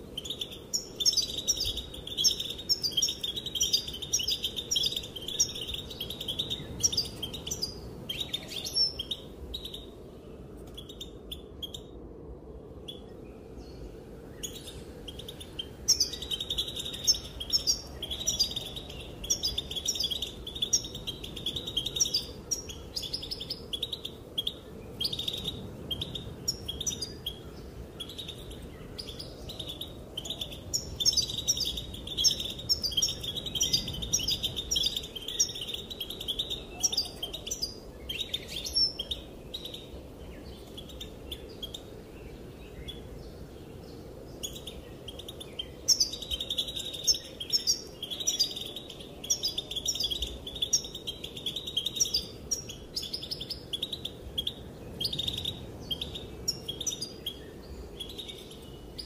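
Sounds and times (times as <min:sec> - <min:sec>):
goldfinch twittering chirps: 0:00.2 - 0:09.9, 0:14.4 - 0:42.0, 0:44.4 - 0:59.0.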